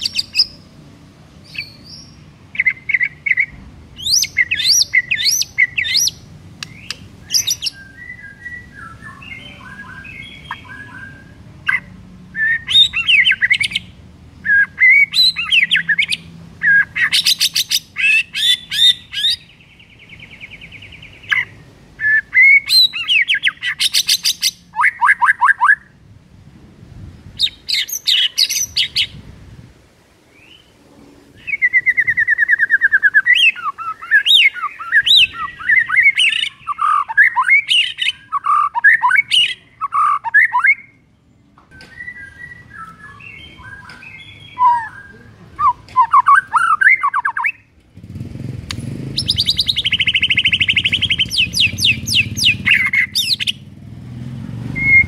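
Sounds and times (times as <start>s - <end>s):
bird singing trills and whistles: 0.0s - 0.6s, 1.4s - 26.0s, 27.4s - 29.2s, 31.4s - 41.0s, 41.7s - 47.7s, 48.8s - 53.7s, 54.7s - 55.0s.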